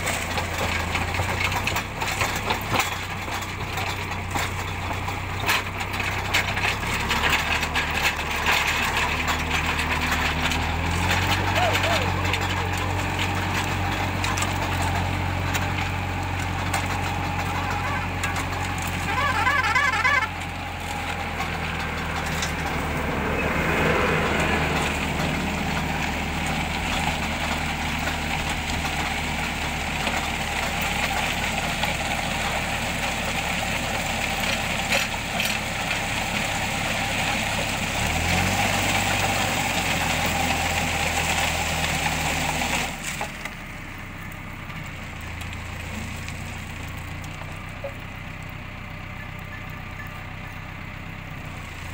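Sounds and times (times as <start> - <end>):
auger boring into gravelly soil: 0.0 - 48.0
tractor engine under load: 0.0 - 51.9.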